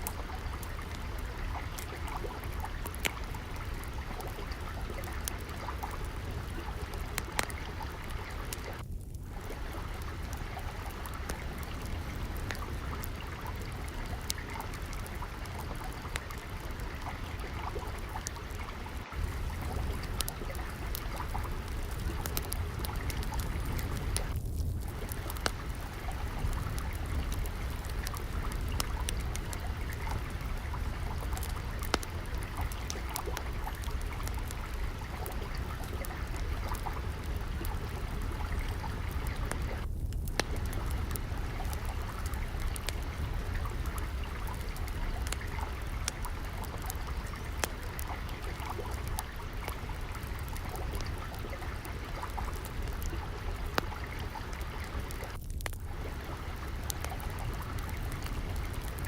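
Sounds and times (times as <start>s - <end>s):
water trickling and flowing: 0.0s - 59.0s
wood fire crackling: 0.0s - 59.0s.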